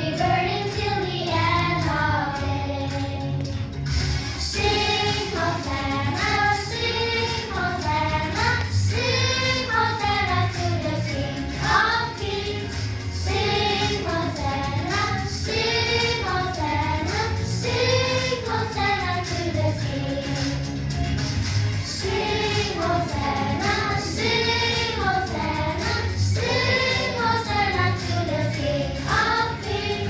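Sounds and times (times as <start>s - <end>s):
children's choir singing: 0.0s - 3.7s, 4.4s - 20.8s, 21.8s - 30.0s.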